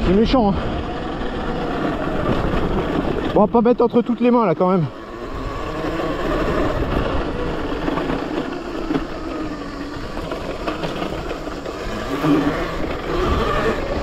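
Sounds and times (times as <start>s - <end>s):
electric motor whine: 0.0s - 14.0s
steady rumble: 0.0s - 14.0s.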